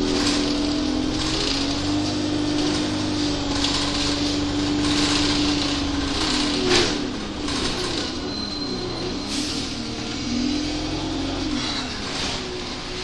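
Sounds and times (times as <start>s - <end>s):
bus diesel engine whine: 0.0s - 13.0s
road noise: 0.0s - 13.0s.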